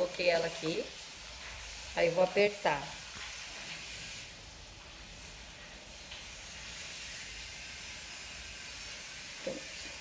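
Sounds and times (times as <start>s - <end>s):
room noise hiss: 0.0s - 10.0s.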